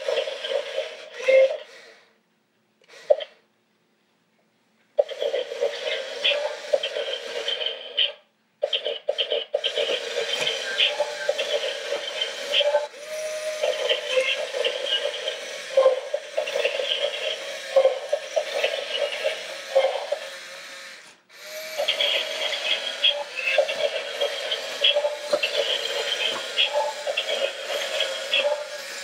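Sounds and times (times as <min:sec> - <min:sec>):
toy motor whirring: 0:00.0 - 0:02.2, 0:02.8 - 0:03.4, 0:05.0 - 0:29.0.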